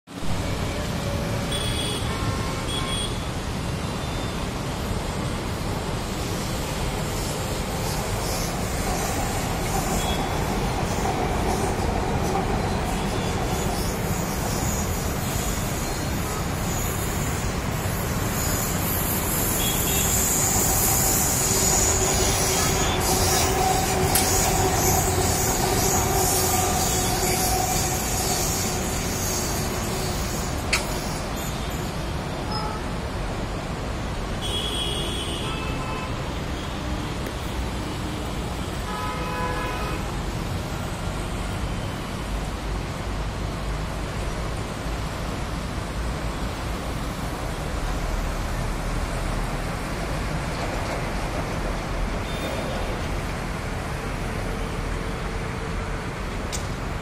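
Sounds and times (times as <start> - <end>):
rush of road traffic: 0.0 - 57.0
electric train whine and wheel squeal: 0.1 - 57.0.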